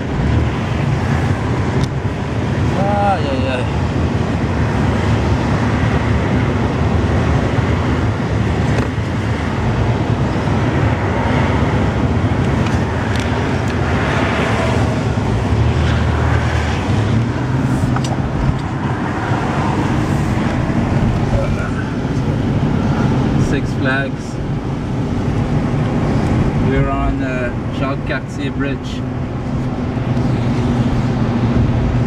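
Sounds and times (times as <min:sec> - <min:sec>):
engine and tyre rumble: 0:00.0 - 0:32.0.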